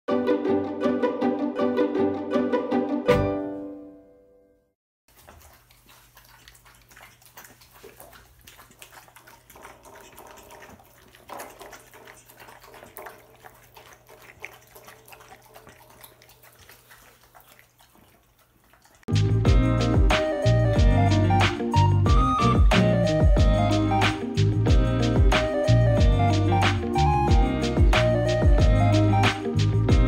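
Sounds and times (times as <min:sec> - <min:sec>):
dogs lapping wet food: 0:05.1 - 0:30.0.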